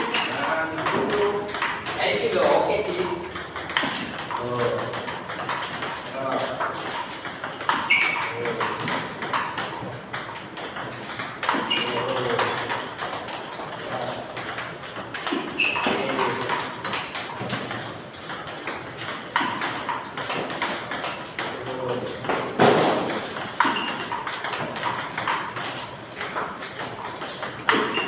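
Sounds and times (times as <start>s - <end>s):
table tennis balls clicking: 0.0s - 28.0s.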